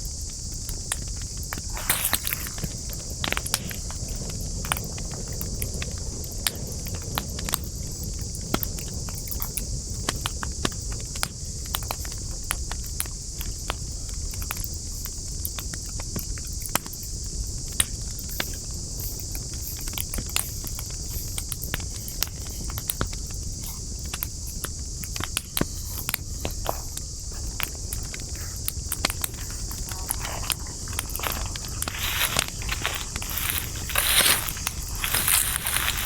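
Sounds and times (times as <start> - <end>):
campfire wood crackling: 0.2 - 36.0.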